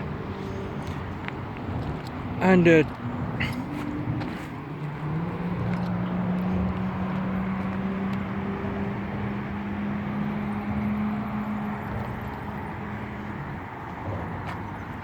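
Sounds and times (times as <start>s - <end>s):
motor traffic engine drone: 0.0s - 15.0s.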